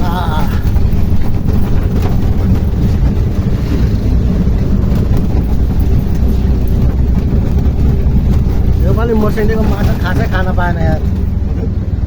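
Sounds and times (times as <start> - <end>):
tuktuk motor rumbling: 0.0 - 12.0.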